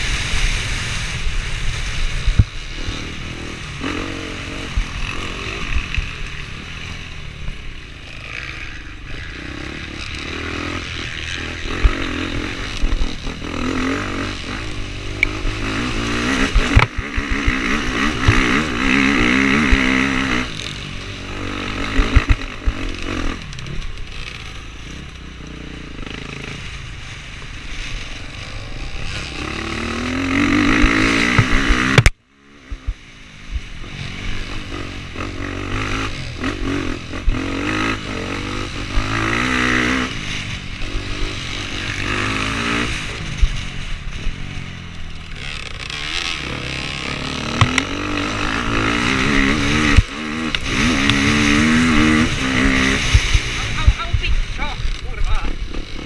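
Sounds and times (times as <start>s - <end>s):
off-road motorcycle engine revving: 0.0s - 56.0s.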